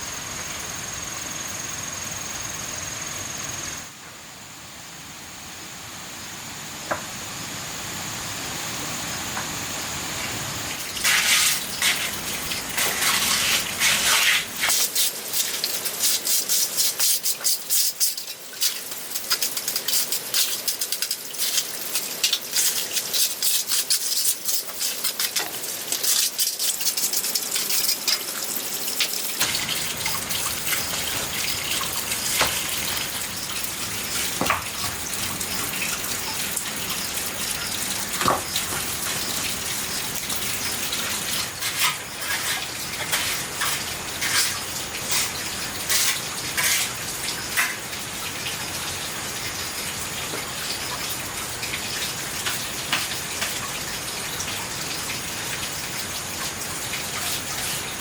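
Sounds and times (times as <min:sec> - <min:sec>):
running water splashing: 0:10.6 - 0:58.0.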